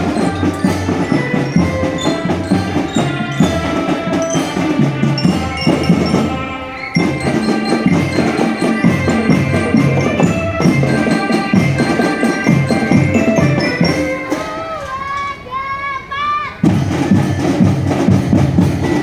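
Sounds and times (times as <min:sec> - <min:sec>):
snare and bass drums: 0:00.0 - 0:14.6, 0:16.6 - 0:19.0
bell lyre melody: 0:00.0 - 0:15.3.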